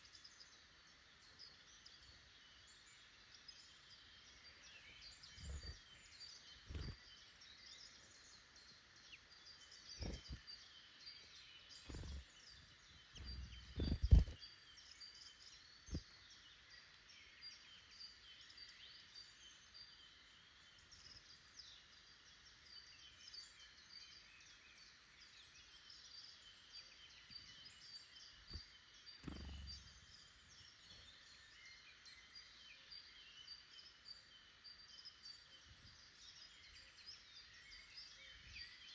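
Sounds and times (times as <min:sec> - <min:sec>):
woodland birds chirping: 0:00.0 - 0:38.9.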